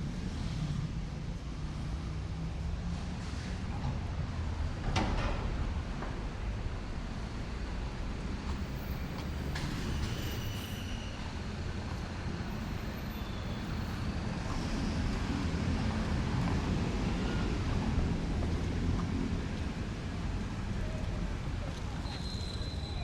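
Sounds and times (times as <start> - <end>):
passing vehicles rumbling: 0.0 - 23.0.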